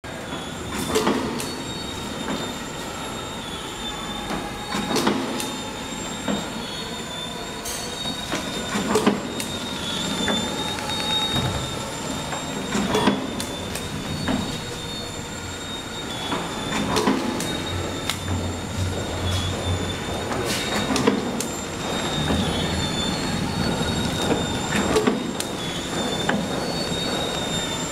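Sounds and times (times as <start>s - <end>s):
packaging machine whine: 0.1s - 27.9s.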